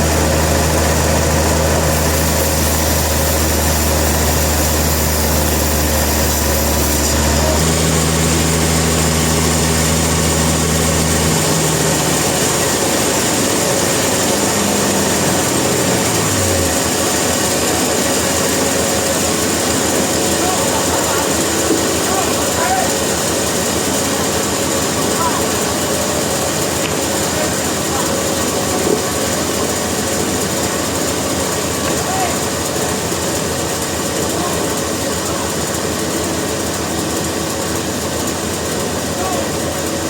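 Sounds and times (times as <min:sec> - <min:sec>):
motor slowing down: 0:00.0 - 0:40.0
sawmill machinery humming: 0:00.0 - 0:40.0.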